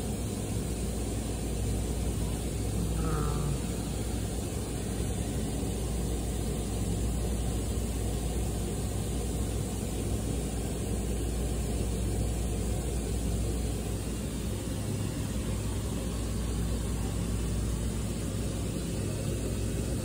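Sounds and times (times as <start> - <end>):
low mechanical hum with rumbling: 0.0 - 20.0.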